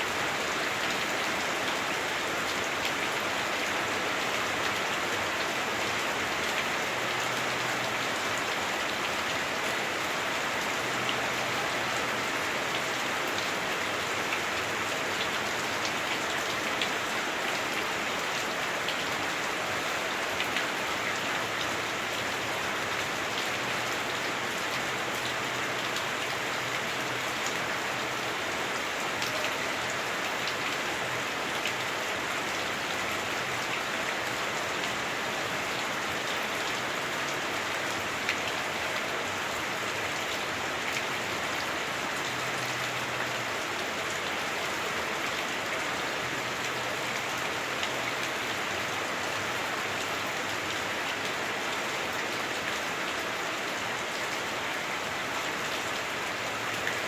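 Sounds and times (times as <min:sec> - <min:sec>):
heavy rain drumming on roof: 0:00.0 - 0:57.0.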